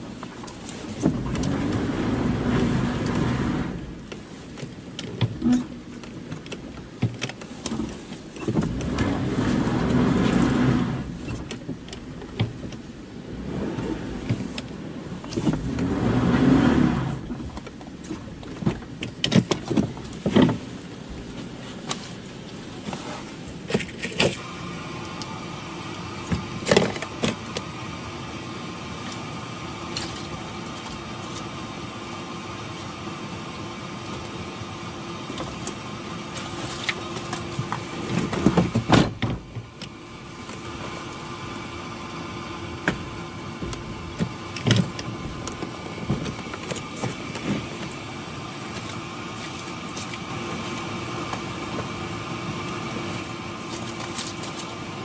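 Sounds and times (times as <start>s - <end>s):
car engine idling hum: 0.0s - 55.0s.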